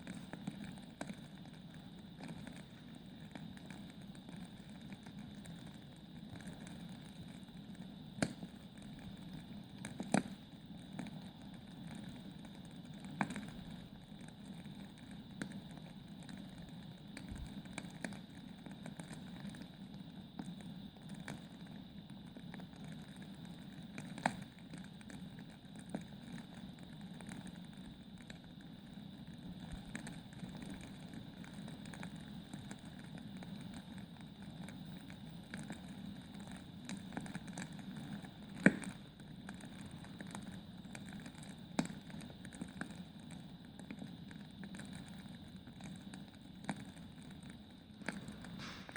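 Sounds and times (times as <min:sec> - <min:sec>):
logs crackling in fireplace: 0:00.0 - 0:48.9.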